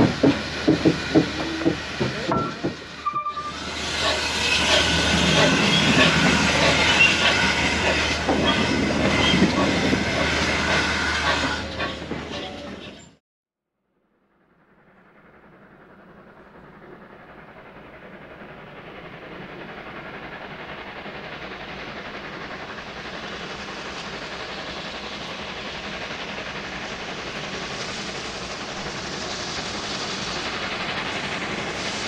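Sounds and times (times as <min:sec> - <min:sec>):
loud hiss of steam: 0:00.0 - 0:12.1, 0:15.9 - 0:32.0
steam locomotive rhythmic knocking: 0:00.0 - 0:13.0, 0:14.8 - 0:32.0.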